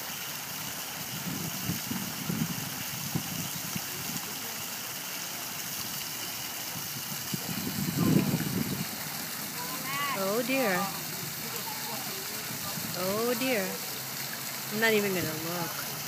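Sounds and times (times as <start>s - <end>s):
fountain splashing water: 0.0s - 16.0s.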